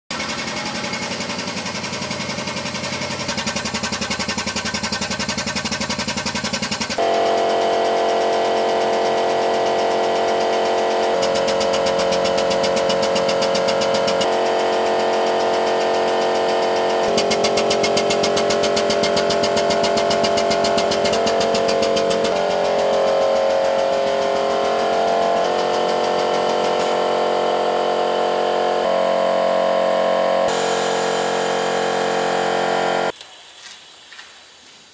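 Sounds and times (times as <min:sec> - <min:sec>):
powered jack running under load: 0:00.1 - 0:33.1.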